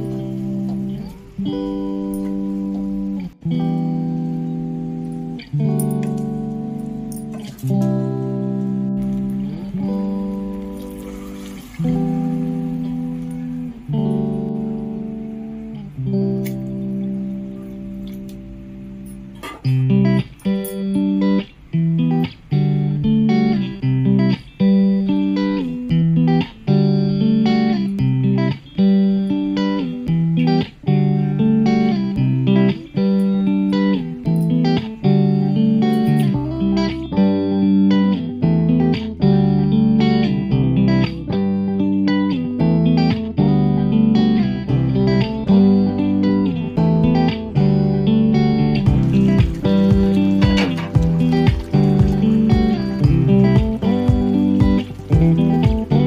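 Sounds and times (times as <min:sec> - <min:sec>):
guitar playing plucked notes: 0:00.0 - 0:56.0.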